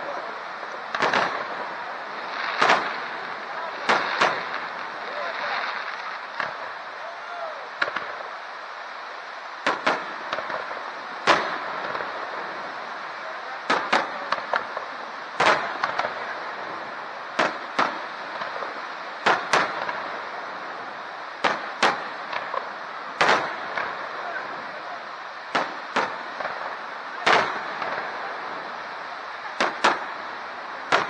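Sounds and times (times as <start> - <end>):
firework bangs: 0.0 - 31.0
steady background noise: 0.0 - 31.0.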